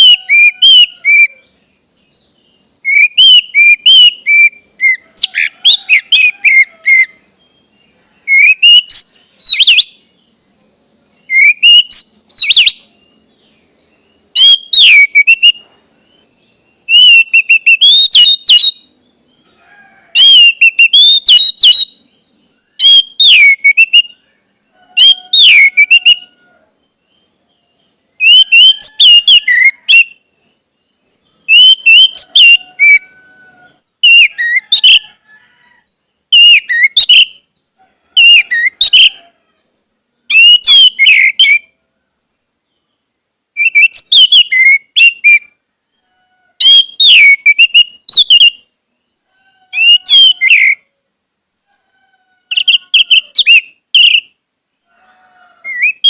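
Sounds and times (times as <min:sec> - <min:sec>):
thrush singing whistled notes: 0:00.0 - 0:35.2, 0:36.3 - 0:37.5, 0:38.2 - 0:39.2, 0:40.3 - 0:41.8, 0:43.6 - 0:45.6, 0:46.6 - 0:48.7, 0:49.7 - 0:50.9, 0:52.5 - 0:54.4, 0:55.6 - 0:56.0.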